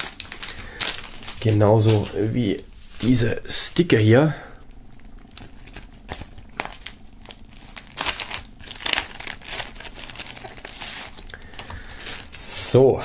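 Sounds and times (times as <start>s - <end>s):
plastic film crinkling: 0.0s - 13.0s.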